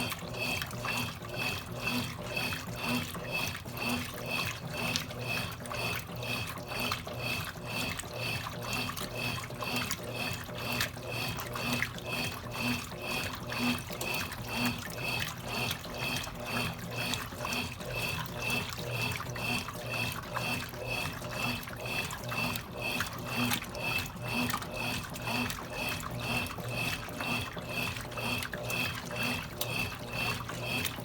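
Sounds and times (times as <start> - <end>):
washing machine running: 0.0 - 31.0.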